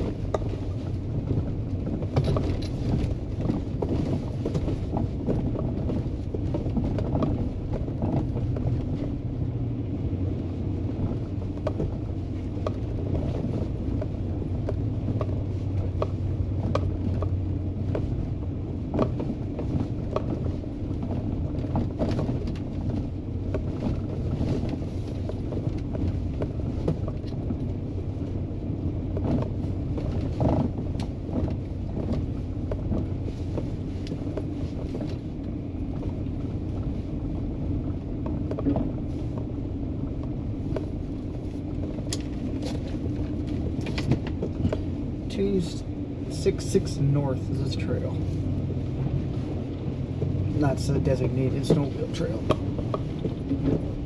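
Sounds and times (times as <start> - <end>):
knocks and rattles over bumps: 0.0 - 54.0.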